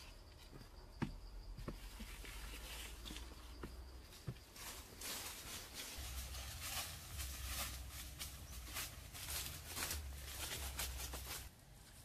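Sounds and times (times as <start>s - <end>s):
leafy vegetation rustling: 1.6s - 12.0s.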